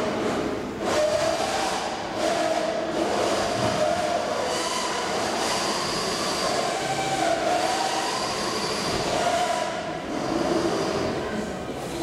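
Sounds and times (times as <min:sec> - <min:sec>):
electric motors whining: 0:00.8 - 0:11.2.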